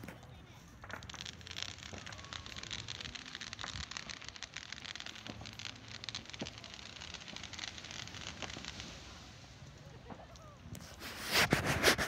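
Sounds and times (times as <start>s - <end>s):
distant fireworks crackling: 0.0s - 12.0s.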